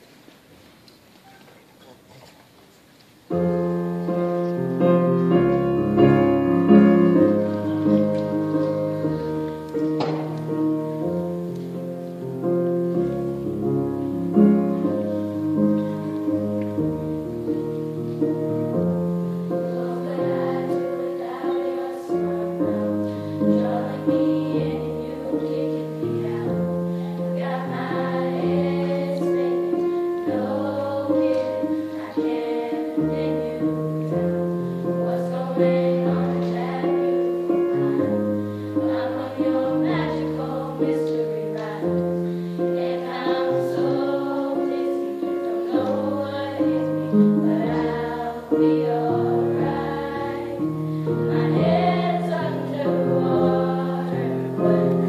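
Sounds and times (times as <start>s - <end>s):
children's choir singing: 3.3s - 55.0s
instrumental accompaniment: 3.3s - 55.0s.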